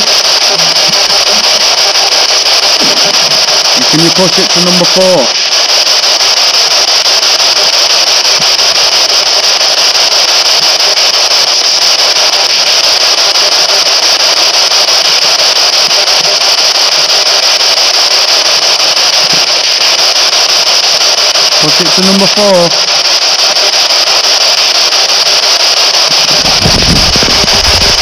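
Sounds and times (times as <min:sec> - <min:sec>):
radio static hiss: 0:00.0 - 0:28.0.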